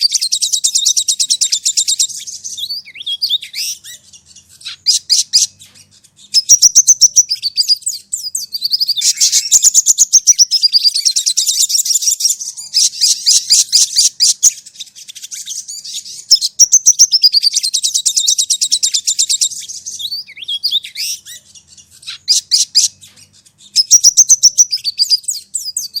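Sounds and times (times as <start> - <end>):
bird trilling song: 0.0 - 26.0.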